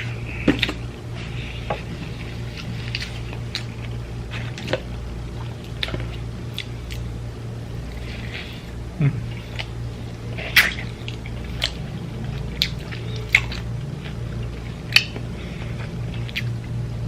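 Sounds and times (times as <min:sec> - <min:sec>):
low steady hum: 0:00.0 - 0:17.0
person chewing with lip smacks: 0:01.7 - 0:07.1, 0:07.8 - 0:16.8.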